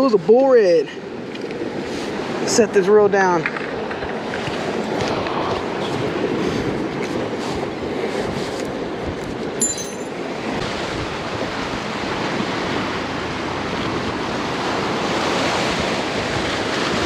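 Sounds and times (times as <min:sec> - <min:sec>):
surf washing in: 0:00.0 - 0:17.0
wind buffeting microphone: 0:00.0 - 0:17.0.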